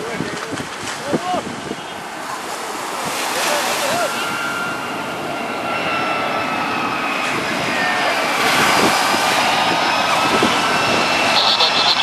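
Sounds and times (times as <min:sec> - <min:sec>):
jet airliner engines whining: 0:01.6 - 0:12.0.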